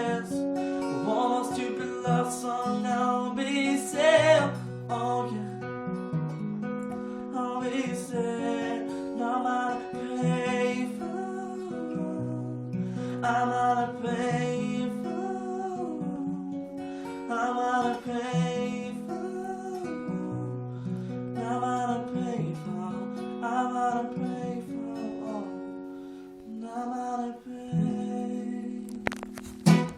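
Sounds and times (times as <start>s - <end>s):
person singing: 0.0s - 5.9s, 7.0s - 25.8s, 26.4s - 29.9s
acoustic guitar strummed: 0.0s - 29.9s.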